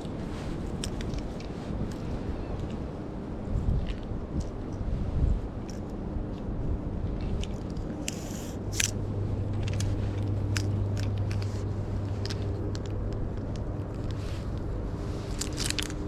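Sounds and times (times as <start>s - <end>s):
low rumble of wind: 0.0s - 16.0s
sharp crackles and crunches: 0.0s - 16.0s.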